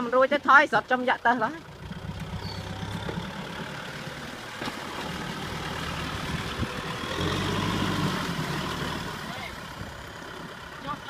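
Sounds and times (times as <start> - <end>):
tractor diesel engine revving: 0.1 - 11.0.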